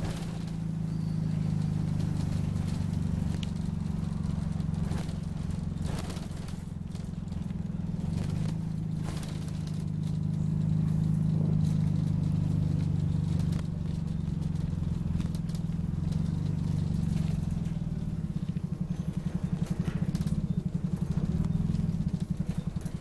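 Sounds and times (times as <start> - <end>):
bus engine droning: 0.0 - 23.0
rattles and clicks: 0.0 - 23.0.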